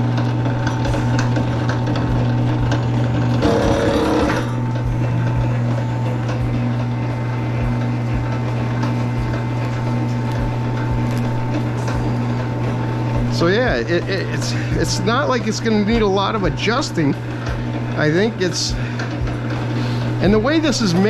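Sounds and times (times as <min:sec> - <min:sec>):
wire-stripping machine motor hum: 0:00.0 - 0:21.0.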